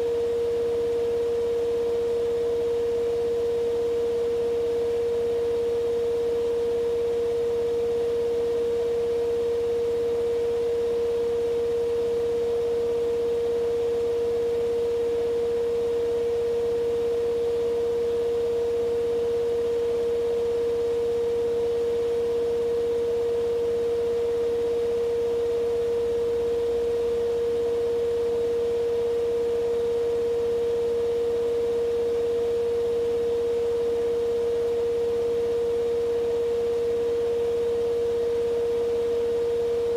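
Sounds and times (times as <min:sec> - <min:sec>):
washing machine spin cycle whine: 0:00.0 - 0:39.9.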